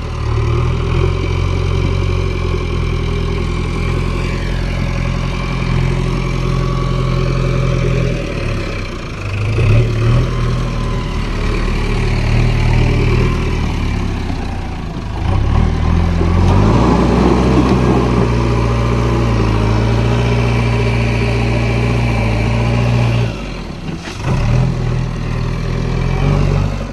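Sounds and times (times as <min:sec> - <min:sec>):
diesel engine revving: 0:00.0 - 0:26.9.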